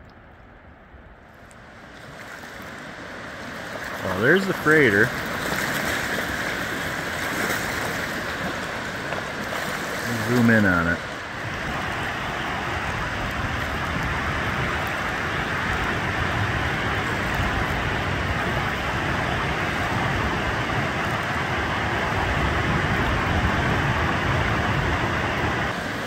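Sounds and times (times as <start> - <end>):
waves breaking on beach: 1.2 - 26.0.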